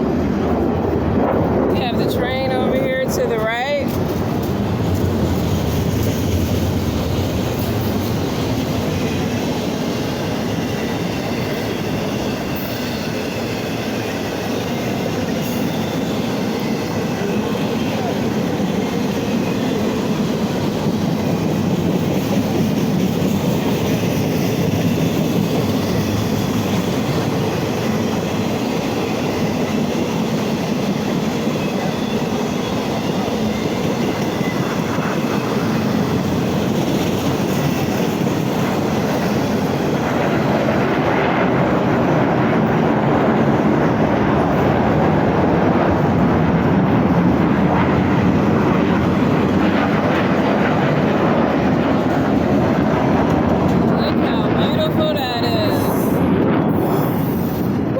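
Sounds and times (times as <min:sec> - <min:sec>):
train wheels on rails: 0:00.0 - 0:57.9.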